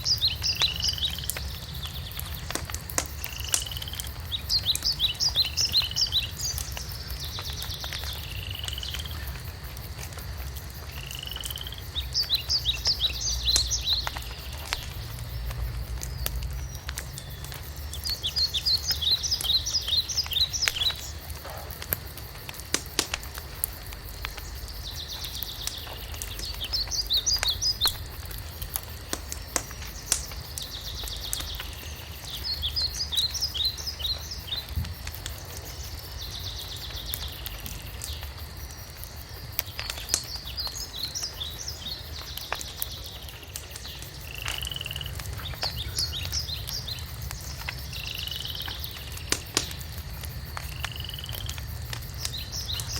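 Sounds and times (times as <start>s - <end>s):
songbird singing: 0.0s - 52.9s
wood fire crackling and popping: 0.0s - 52.9s.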